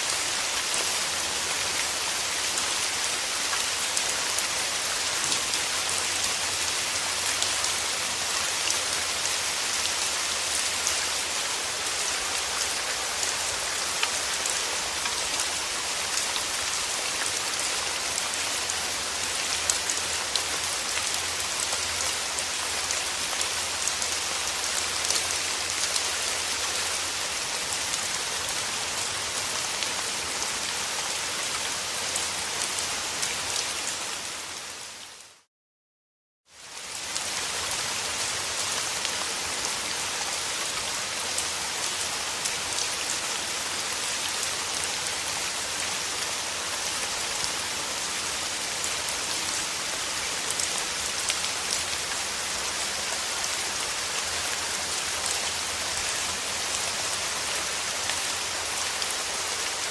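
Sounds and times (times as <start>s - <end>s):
rain pattering: 0.0s - 34.4s, 36.6s - 59.9s.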